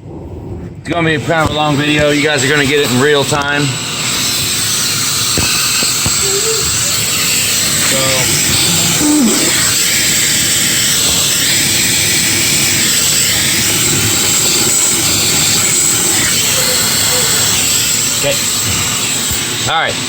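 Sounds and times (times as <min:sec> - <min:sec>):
shop vacuum running: 0:00.0 - 0:20.0.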